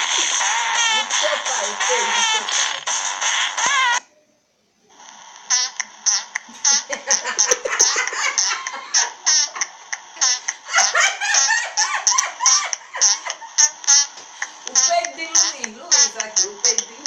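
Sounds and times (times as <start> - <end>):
high-pitched belly laughter: 0.0 - 2.9, 5.5 - 16.8.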